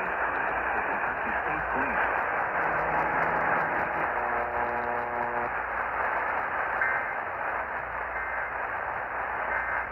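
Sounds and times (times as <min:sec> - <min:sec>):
radio static hiss: 0:00.0 - 0:09.9
steady pitched hum: 0:00.0 - 0:09.9.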